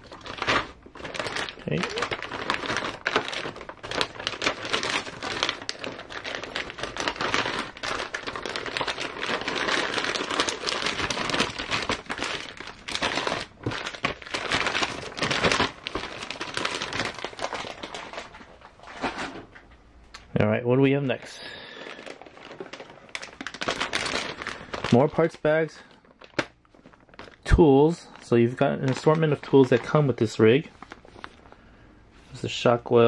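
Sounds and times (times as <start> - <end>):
plastic bags crinkling: 0.0 - 19.7, 21.1 - 32.7.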